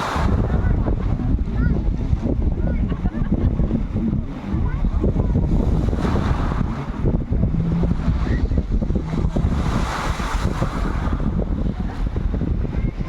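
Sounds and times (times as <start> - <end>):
sea water washing: 0.0 - 13.0
wind buffeting microphone: 0.0 - 13.0.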